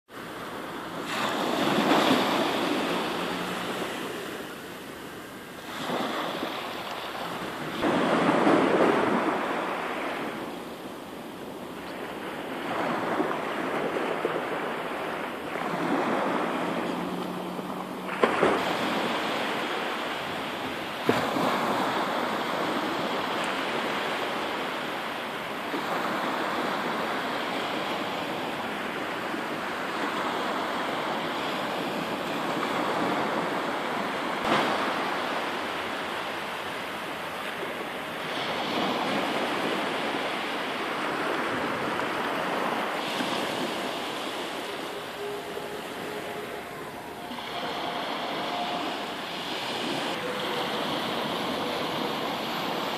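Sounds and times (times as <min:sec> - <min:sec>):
small waves breaking on sand: 0:00.1 - 0:52.9.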